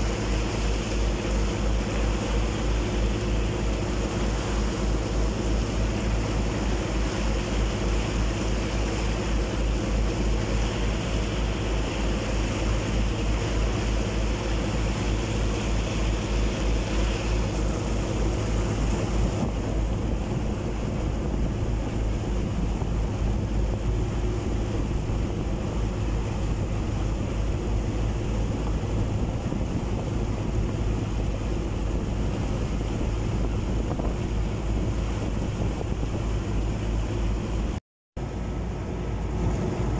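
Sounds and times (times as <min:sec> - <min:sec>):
boat engine throbbing: 0:00.0 - 0:39.9
water rushing in wake: 0:00.0 - 0:39.9
wind buffeting microphone: 0:00.0 - 0:39.9.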